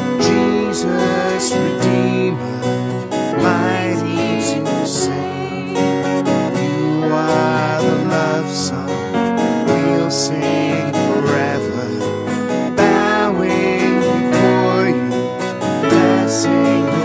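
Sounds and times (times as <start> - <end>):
man and woman singing: 0.0 - 9.1, 9.7 - 15.2, 15.8 - 17.0
electric keyboard: 0.0 - 17.0
strummed acoustic guitar: 0.0 - 17.0.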